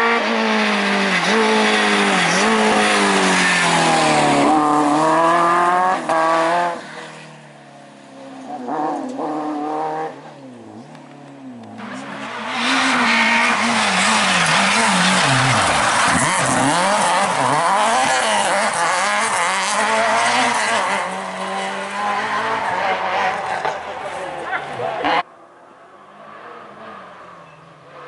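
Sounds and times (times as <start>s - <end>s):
rally car engines at full throttle: 0.0s - 28.0s.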